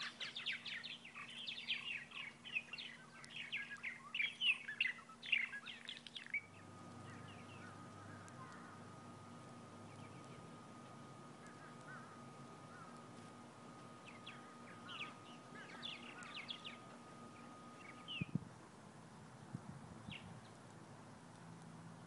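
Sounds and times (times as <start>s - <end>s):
faint steady high tone: 0.0s - 18.4s
small songbirds chirping: 0.0s - 18.4s, 19.2s - 21.4s.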